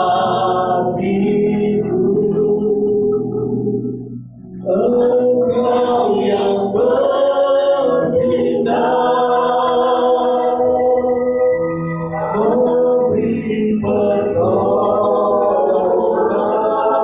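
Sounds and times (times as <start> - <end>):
man singing into microphone: 0.0 - 3.9, 4.6 - 17.0
electronic keyboard: 0.0 - 17.0.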